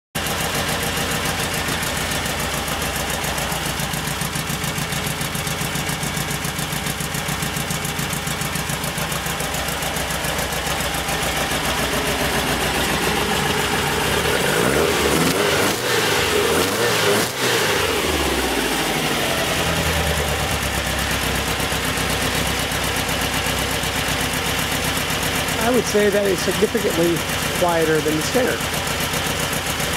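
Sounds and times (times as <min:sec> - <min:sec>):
car engine idling: 0:00.2 - 0:29.9.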